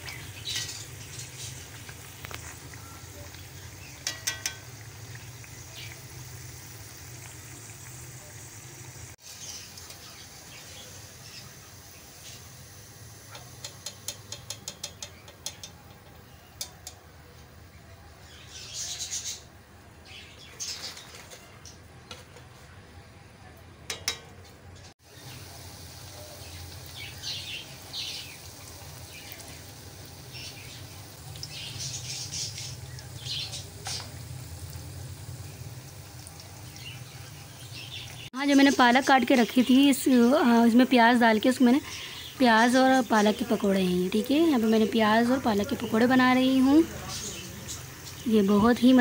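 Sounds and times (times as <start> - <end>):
hot oil sizzling and crackling: 0.0 - 22.6, 23.7 - 49.0.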